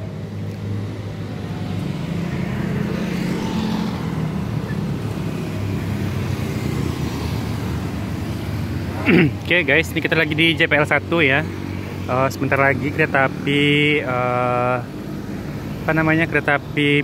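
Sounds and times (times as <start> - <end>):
motorcycles passing: 0.0 - 17.0
road traffic: 0.0 - 17.0.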